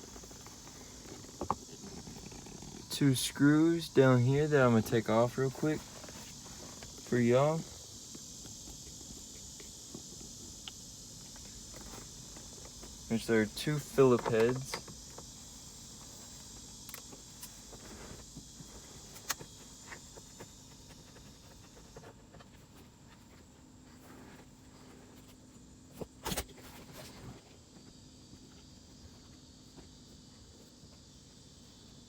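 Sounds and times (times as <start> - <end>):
steady high hiss: 0.0 - 32.0.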